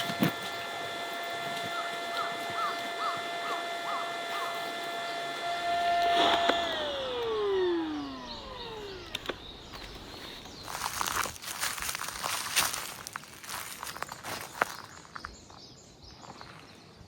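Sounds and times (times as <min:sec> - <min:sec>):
small motor whining: 0:00.0 - 0:14.7.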